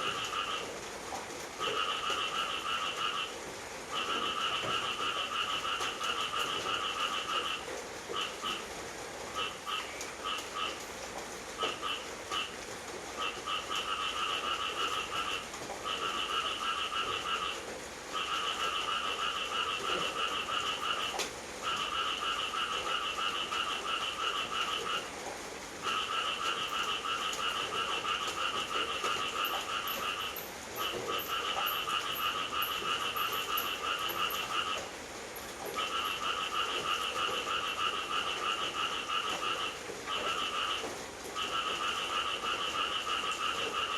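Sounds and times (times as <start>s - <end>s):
frogs calling: 0.0s - 11.0s, 11.6s - 25.2s, 25.8s - 43.9s
rain hiss: 0.0s - 43.9s.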